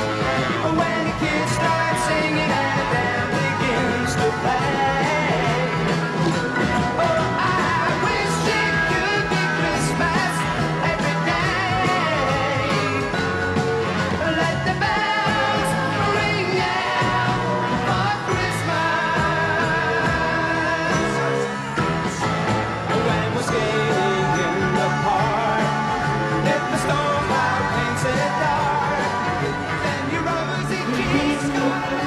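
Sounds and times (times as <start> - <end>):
pop-rock music with singing: 0.0 - 32.0.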